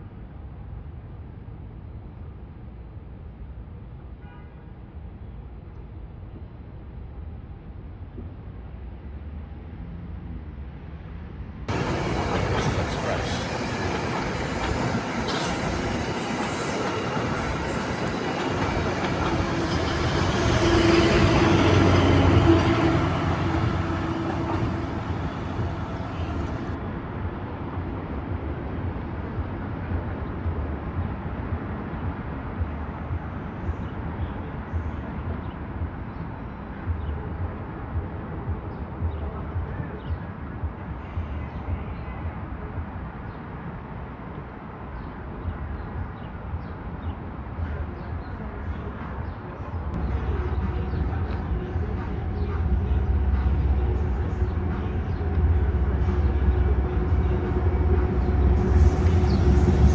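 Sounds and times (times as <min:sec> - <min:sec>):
steady low rumble: 0:04.8 - 0:43.1, 0:45.2 - 0:59.9
commuter train passing: 0:10.9 - 0:42.8, 0:43.4 - 0:59.9.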